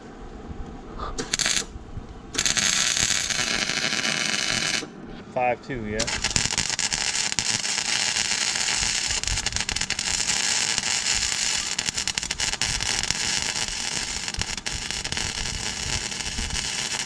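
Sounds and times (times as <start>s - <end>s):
welding arc crackling: 1.2s - 1.7s, 2.3s - 5.0s, 6.0s - 17.0s.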